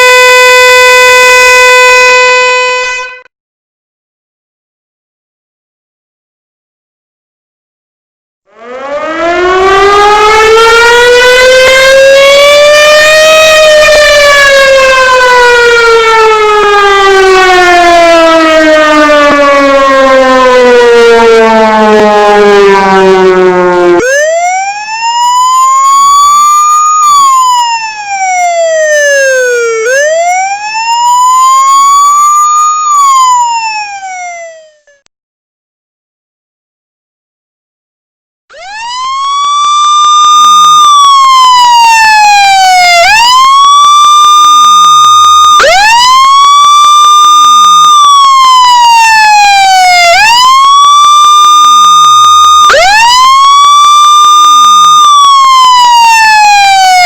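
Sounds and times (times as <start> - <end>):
pure siren tone rising and falling: 0.0 - 3.2, 8.5 - 35.0, 38.5 - 57.0
rich siren winding up and down: 0.0 - 3.3, 8.5 - 35.0, 38.5 - 57.0.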